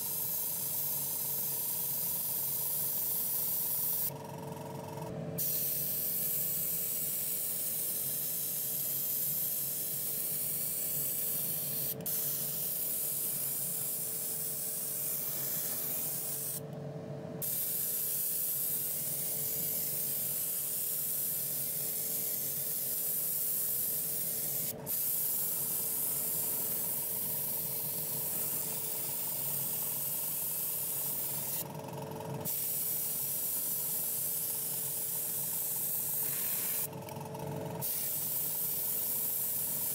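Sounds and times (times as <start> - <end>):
airbrush spraying hiss: 0.0 - 4.1, 5.4 - 16.6, 17.4 - 31.6, 32.5 - 36.9, 37.8 - 39.9
steady hum: 0.0 - 39.9.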